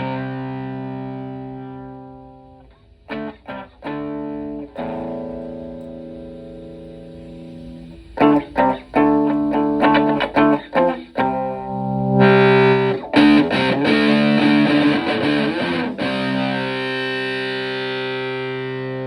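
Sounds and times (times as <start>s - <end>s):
fuzz distorted electric guitar: 0.0s - 19.0s.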